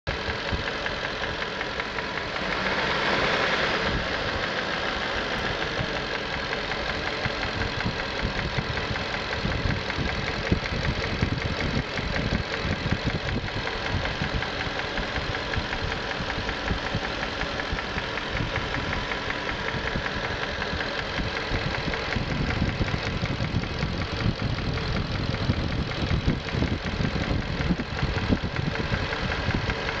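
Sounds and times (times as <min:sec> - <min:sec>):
fast engine ticking and rattle: 0:00.0 - 0:30.0
car engine idling: 0:00.1 - 0:30.0.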